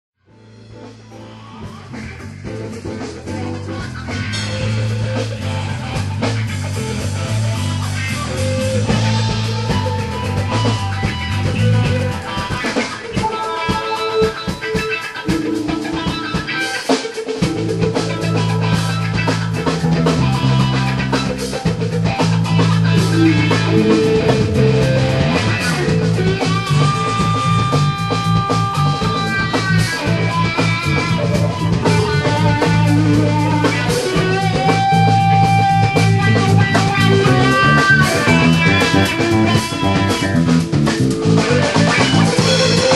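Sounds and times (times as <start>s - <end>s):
rock music: 0.2s - 42.9s.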